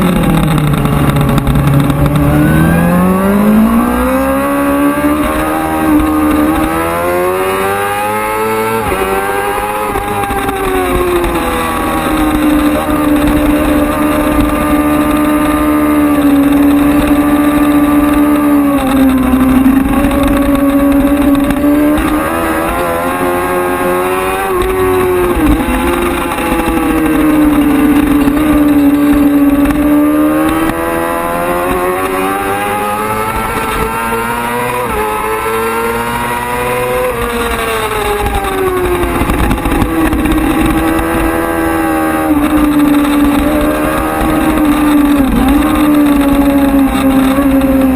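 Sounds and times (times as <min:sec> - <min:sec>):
racing motorcycle engine: 0:00.0 - 0:47.9.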